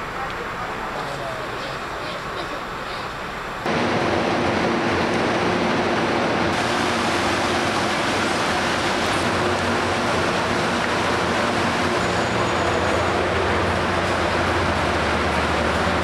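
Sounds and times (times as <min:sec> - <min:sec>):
electric locomotive whirring: 0:02.8 - 0:16.0
moving train rushing: 0:02.8 - 0:16.0.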